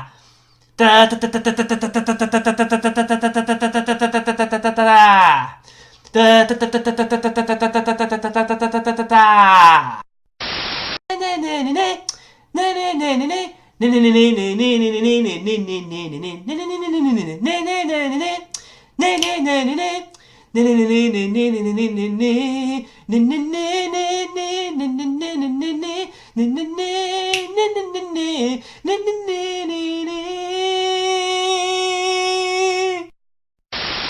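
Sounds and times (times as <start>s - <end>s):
person humming a melody: 0.8s - 9.8s, 11.1s - 33.1s.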